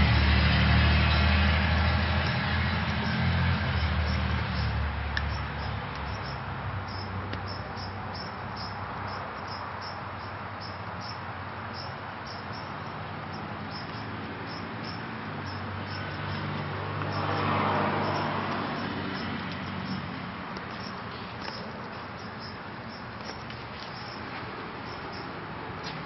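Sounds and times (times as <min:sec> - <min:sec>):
insects chirping: 0:01.1 - 0:26.0.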